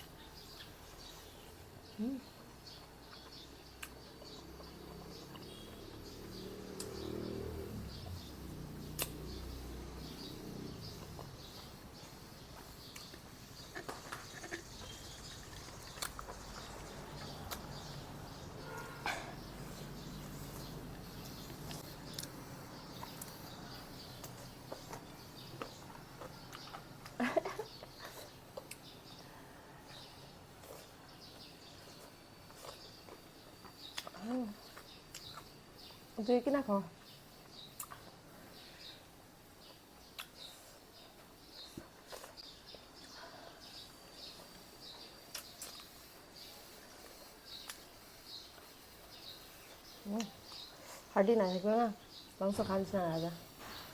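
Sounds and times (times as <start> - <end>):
faint birds chirping: 0.0 - 53.9.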